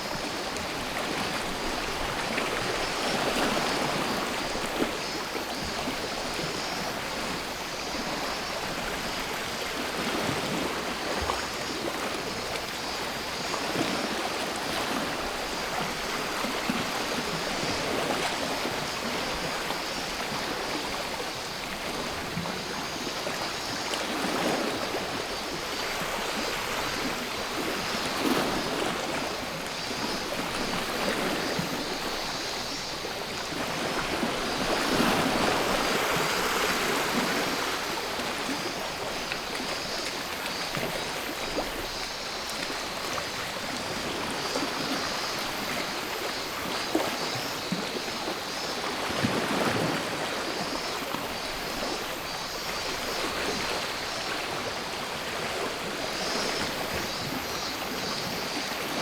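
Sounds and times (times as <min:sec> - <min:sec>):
high buzz of cicadas: 0:00.0 - 0:59.0
sea waves washing ashore: 0:00.0 - 0:59.0.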